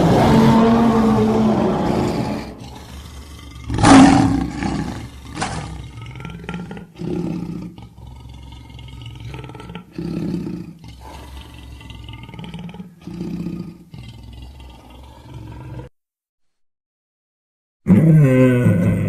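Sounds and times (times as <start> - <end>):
low growling calls: 0.0 - 15.9
monster roar: 0.0 - 15.9, 17.9 - 19.0.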